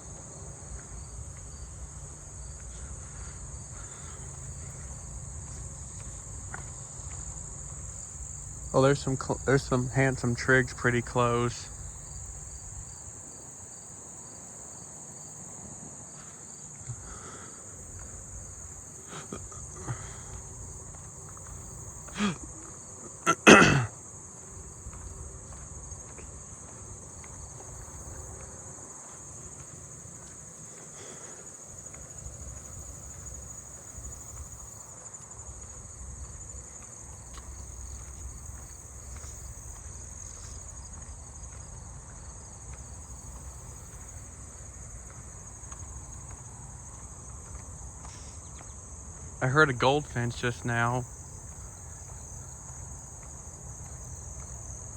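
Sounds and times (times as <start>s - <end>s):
crickets trilling: 0.0s - 54.9s
faint insect chirps: 0.0s - 54.9s.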